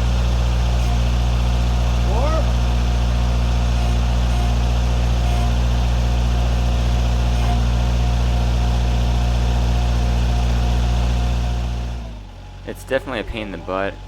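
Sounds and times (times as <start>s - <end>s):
tractor engine droning: 0.0s - 14.0s.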